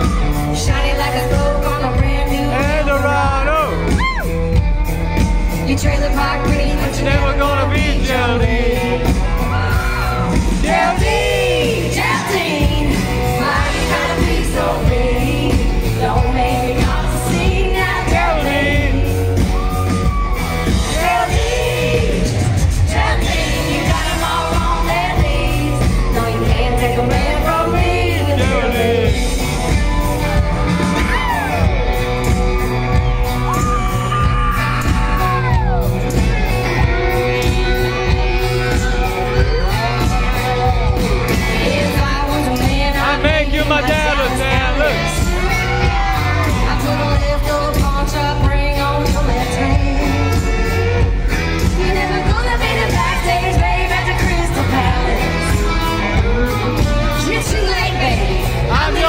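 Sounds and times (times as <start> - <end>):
lead vocal singing: 0.0 - 4.4, 5.2 - 59.0
crowd shouting and whooping: 0.0 - 59.0
live country band: 0.0 - 59.0.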